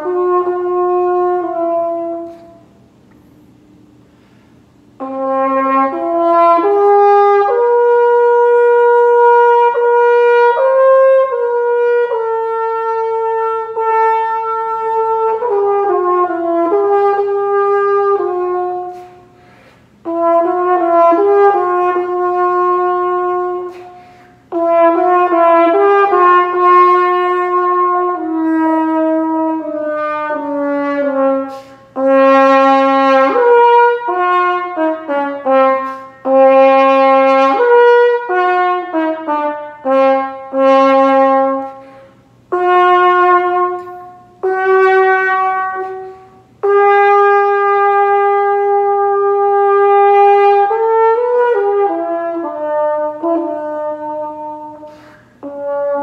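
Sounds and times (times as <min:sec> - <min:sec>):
french horn playing slow melody: 0:00.0 - 0:56.0.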